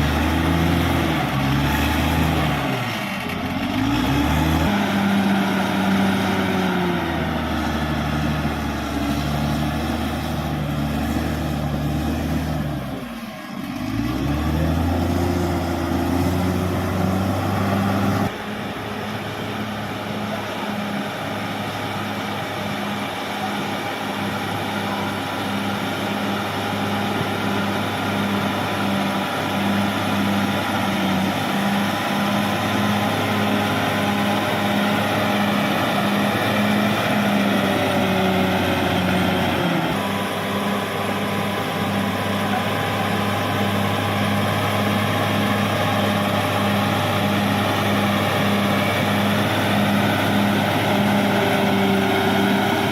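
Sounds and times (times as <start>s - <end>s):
bulldozer diesel engine running hard: 0.0s - 52.9s.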